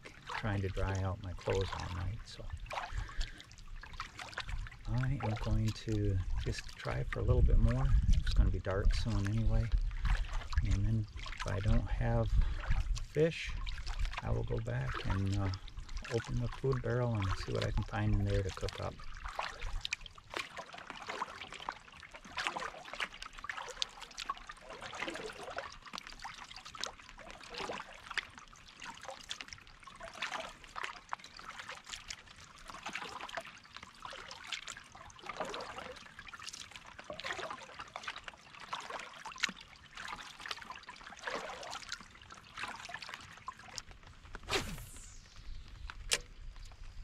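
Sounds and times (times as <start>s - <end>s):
paddle dipping into water: 0.0s - 47.0s
water splashing and trickling: 0.0s - 47.0s.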